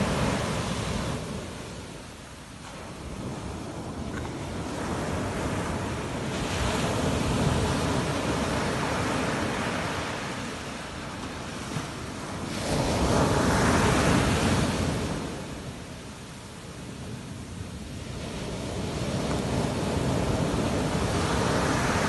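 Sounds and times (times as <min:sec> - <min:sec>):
sea surf breaking on beach: 0:00.0 - 0:22.0.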